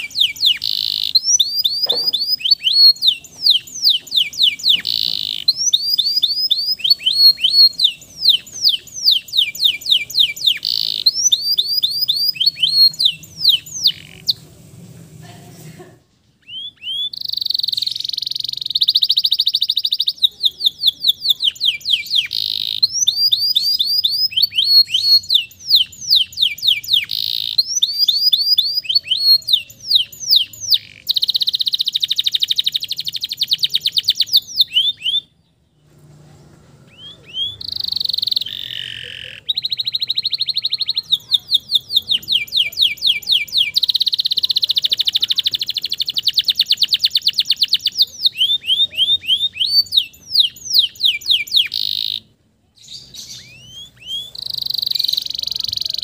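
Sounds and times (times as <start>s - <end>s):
canary singing trills: 0.0s - 14.6s, 16.3s - 56.0s.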